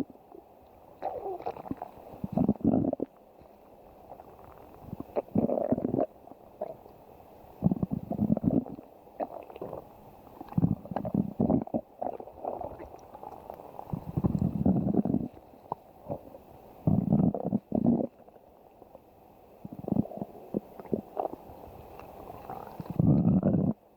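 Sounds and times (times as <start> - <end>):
stomach growling: 0.0 - 7.0, 7.6 - 23.9.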